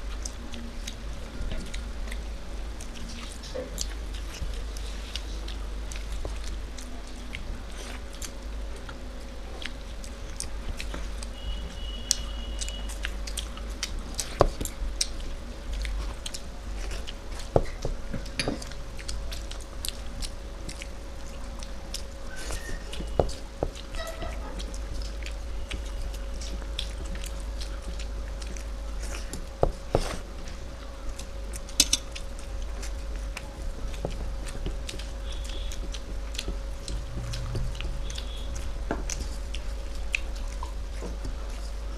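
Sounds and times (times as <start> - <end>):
chewing and biting: 0.0 - 41.9
faint steady hum: 0.0 - 41.9.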